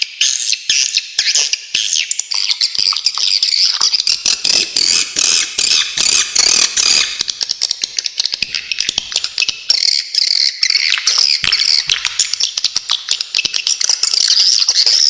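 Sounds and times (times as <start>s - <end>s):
swiftlets chirping and trilling: 1.3s - 15.0s.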